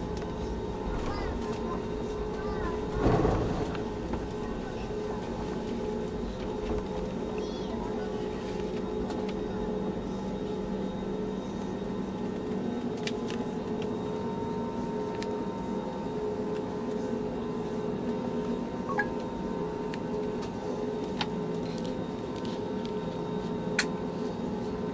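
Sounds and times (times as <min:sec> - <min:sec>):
airplane engines hum in cabin: 0:00.0 - 0:24.9.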